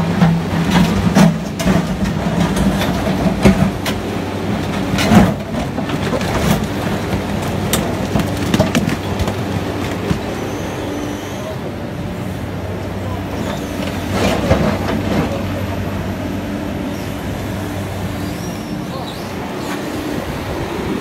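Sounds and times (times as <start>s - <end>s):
excavator engine hum: 0.0s - 21.0s.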